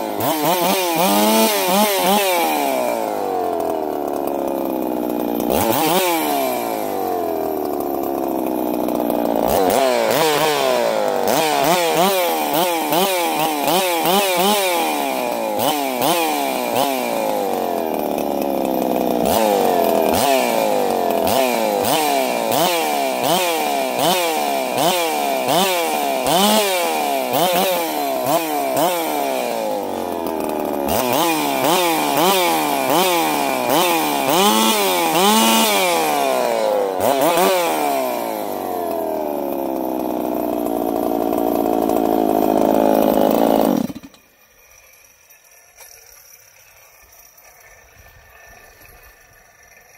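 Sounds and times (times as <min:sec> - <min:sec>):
chainsaw engine revving: 0:00.0 - 0:44.7.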